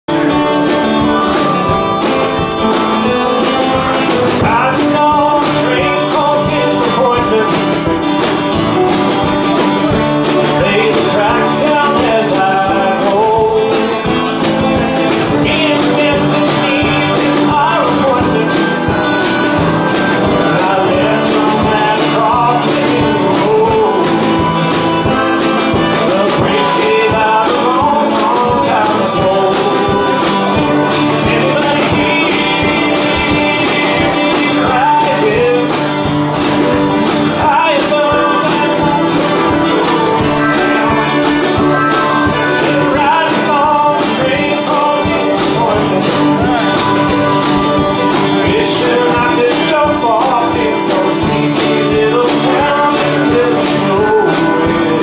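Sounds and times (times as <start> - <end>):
acoustic guitar strumming: 0.0 - 55.0
live band playing: 0.0 - 55.0
man singing: 0.0 - 55.0
harmonica: 0.1 - 55.0.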